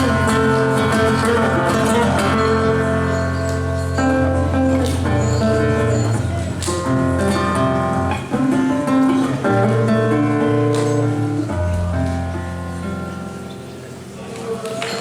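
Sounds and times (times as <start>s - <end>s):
acoustic rock band playing: 0.0s - 14.1s.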